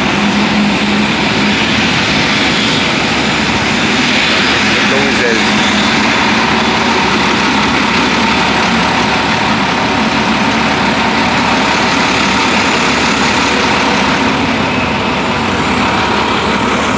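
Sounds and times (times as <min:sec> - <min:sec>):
loud steady engine noise: 0:00.0 - 0:16.9.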